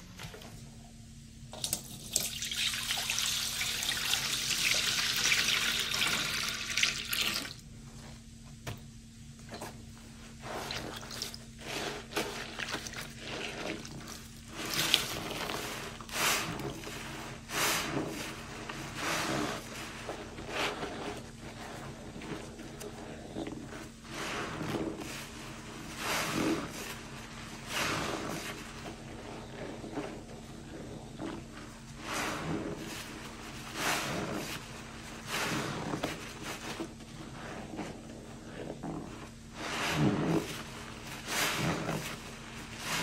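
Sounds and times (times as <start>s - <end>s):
sponge squelching in soapy liquid: 0.4s - 8.6s, 9.2s - 43.0s.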